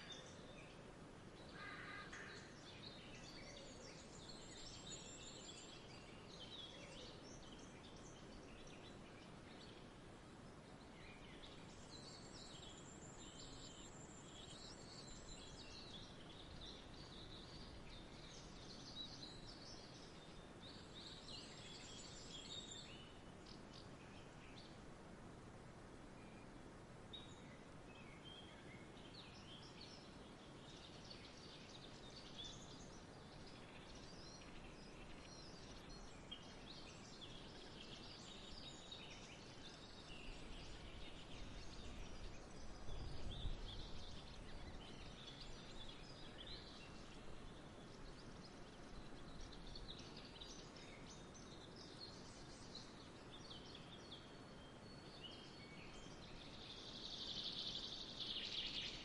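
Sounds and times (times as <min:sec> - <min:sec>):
birds chirping and twittering: 0:00.0 - 0:25.2, 0:26.1 - 0:59.0
soft background hiss: 0:00.0 - 0:59.0.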